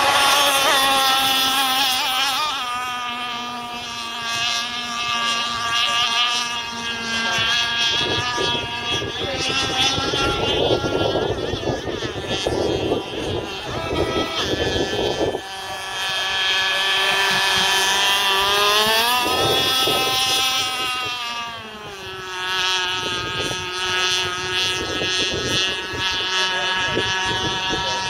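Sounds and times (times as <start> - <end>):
two-stroke boat engine running: 0.0 - 28.0.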